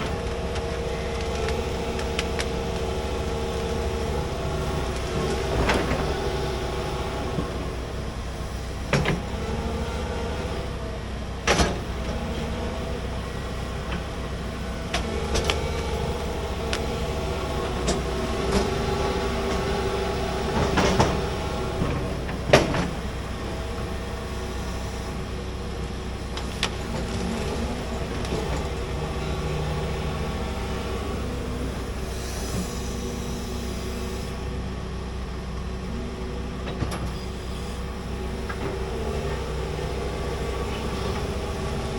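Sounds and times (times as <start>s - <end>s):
excavator clanks and knocks: 0.0s - 8.0s, 8.7s - 9.8s, 11.4s - 25.0s, 25.7s - 33.9s, 35.5s - 41.9s
excavator diesel engine running: 0.0s - 41.9s.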